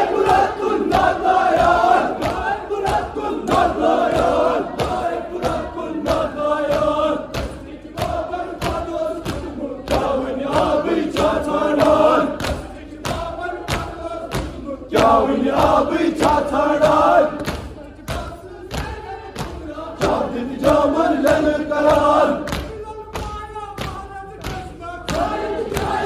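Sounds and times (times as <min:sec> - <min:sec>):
men chanting together: 0:00.0 - 0:22.7, 0:23.3 - 0:26.0.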